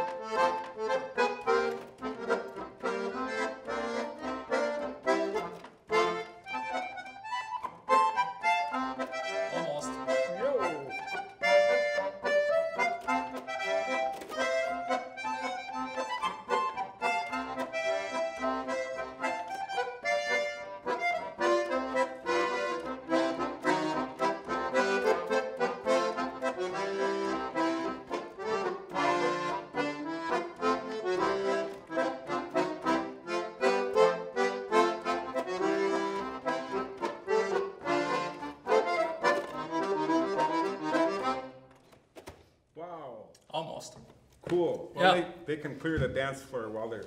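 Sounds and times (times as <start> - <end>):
concertina dance tune: 0.0 - 41.7.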